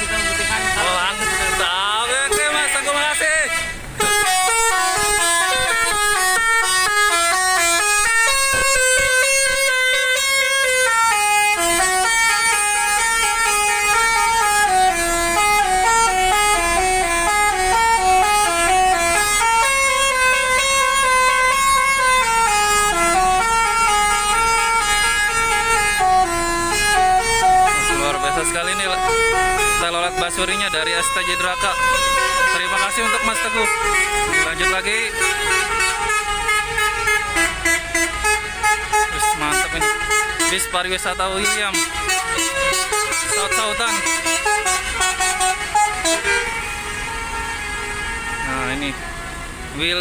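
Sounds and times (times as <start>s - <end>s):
multi-tone air horn melody: 0.0s - 49.8s.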